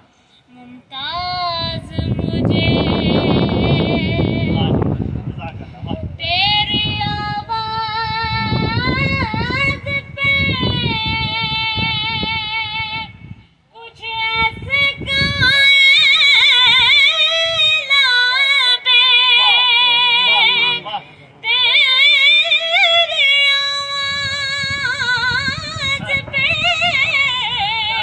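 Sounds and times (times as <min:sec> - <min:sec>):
boy singing: 0:00.5 - 0:04.8, 0:06.2 - 0:13.2, 0:13.8 - 0:20.8, 0:21.5 - 0:28.0.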